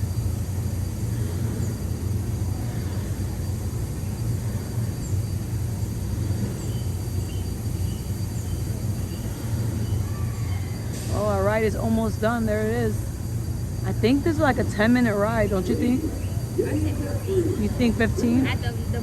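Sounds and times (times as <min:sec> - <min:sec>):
steamboat rumble: 0:00.0 - 0:19.0.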